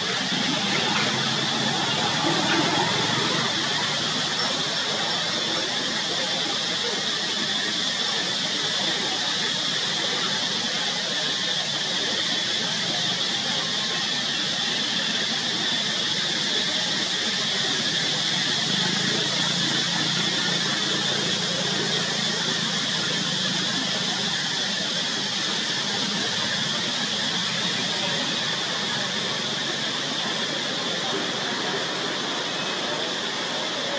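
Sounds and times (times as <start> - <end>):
insects droning in trees: 0.0 - 33.9.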